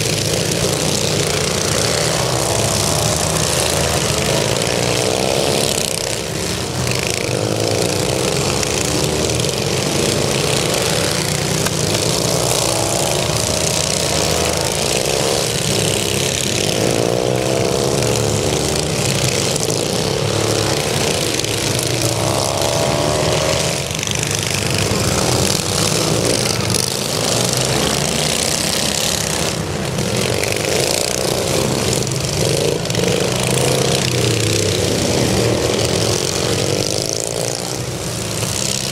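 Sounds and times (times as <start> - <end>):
small mower engines racing: 0.0 - 38.9.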